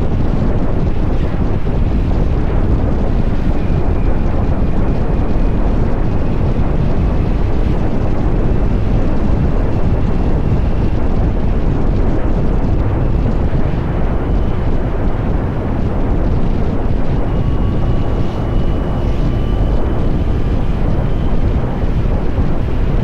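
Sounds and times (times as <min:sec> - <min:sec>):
faint thin whine rising in pitch: 0:00.0 - 0:23.0
wind rushing over microphone: 0:00.0 - 0:23.0.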